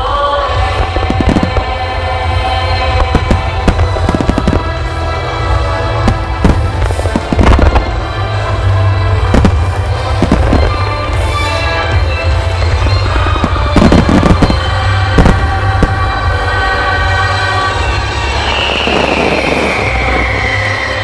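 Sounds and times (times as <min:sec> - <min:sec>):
loud music: 0:00.0 - 0:21.0
fireworks bursting: 0:00.5 - 0:21.0.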